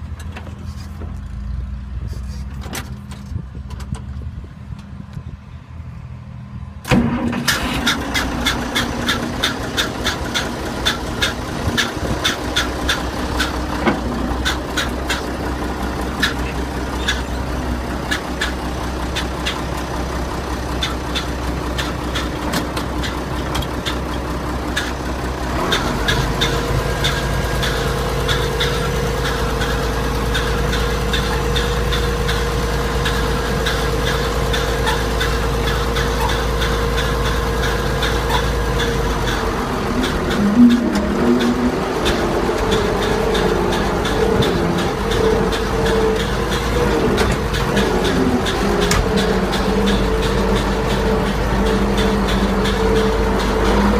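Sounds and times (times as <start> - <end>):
tractor engine running: 0.0 - 53.9
rhythmic ticking clatter: 8.1 - 53.9.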